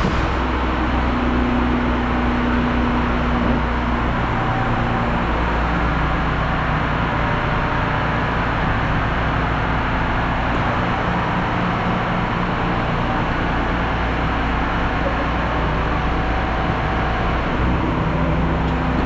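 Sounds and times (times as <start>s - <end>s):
diesel truck engine running: 0.0s - 19.0s
steady hum: 0.0s - 19.0s.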